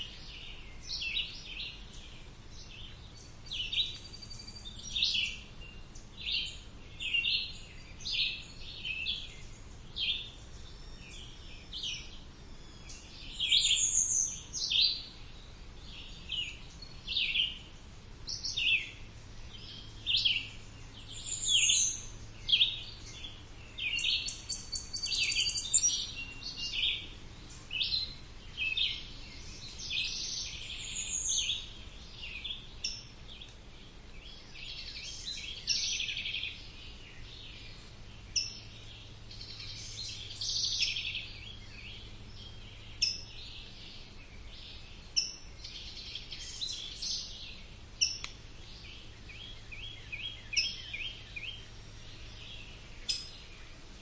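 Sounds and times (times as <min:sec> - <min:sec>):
birds singing and chirping: 0:00.0 - 0:54.0
faint low hum: 0:00.0 - 0:54.0.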